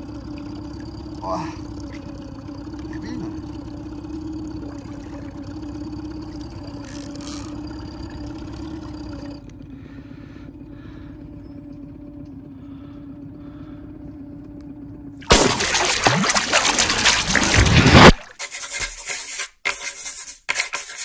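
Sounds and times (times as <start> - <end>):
boat motor humming: 0.0 - 19.2.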